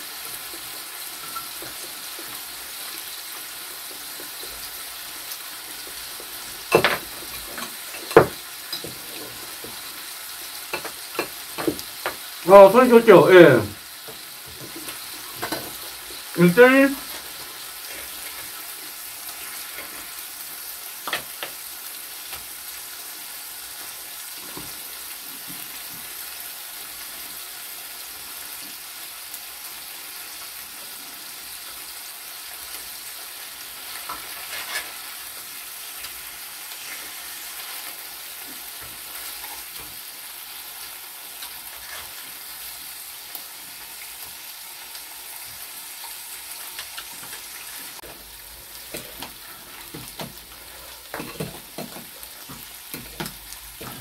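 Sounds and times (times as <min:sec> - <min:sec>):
fat sizzling on a grill pan: 0:00.0 - 0:54.0.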